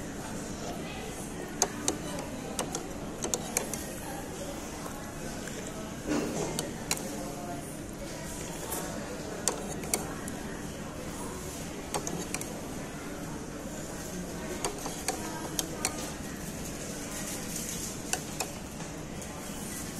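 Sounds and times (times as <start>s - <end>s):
background murmur: 0.0s - 19.9s.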